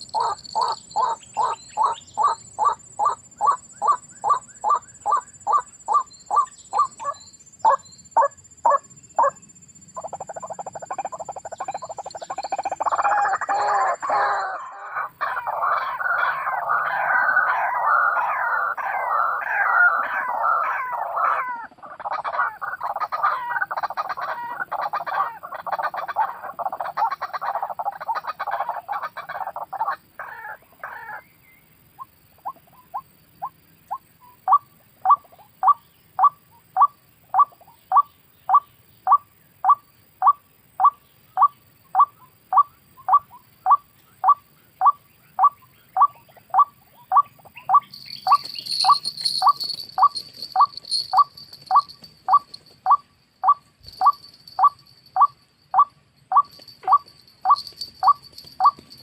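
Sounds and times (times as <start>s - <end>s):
waterhen calling: 0.0s - 7.8s, 10.1s - 31.2s, 34.5s - 58.9s.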